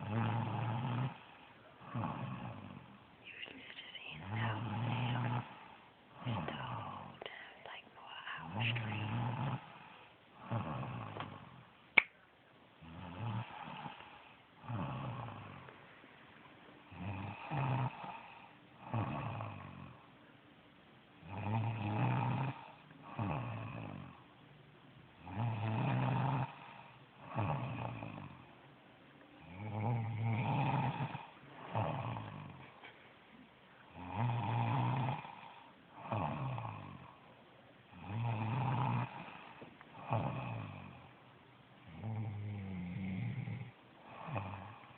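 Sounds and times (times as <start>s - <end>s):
woman snoring: 0.0s - 11.7s, 12.8s - 15.7s, 16.9s - 20.1s, 21.2s - 24.2s, 25.2s - 28.4s, 29.4s - 32.8s, 33.9s - 37.2s, 37.9s - 41.1s, 41.8s - 44.9s.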